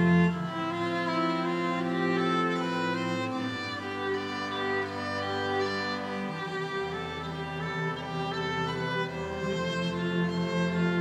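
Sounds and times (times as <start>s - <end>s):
strings playing slow bowed chords: 0.0s - 11.0s.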